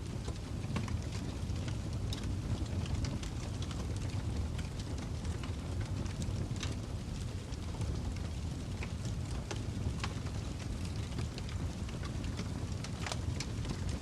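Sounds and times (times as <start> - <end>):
fire burning with crackles: 0.0 - 14.0.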